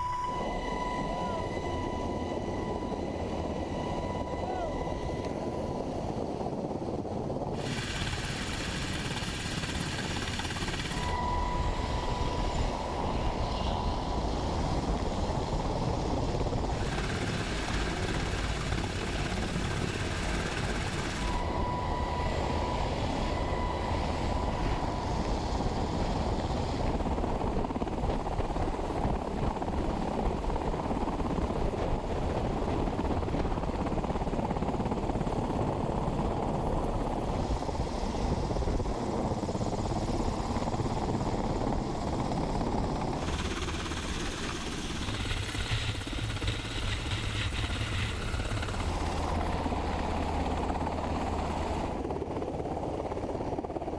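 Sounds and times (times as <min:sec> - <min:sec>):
helicopter rotor and engine noise: 0:00.0 - 0:53.9
steady high whine: 0:00.0 - 0:53.9
wind buffeting microphone: 0:00.0 - 0:53.9.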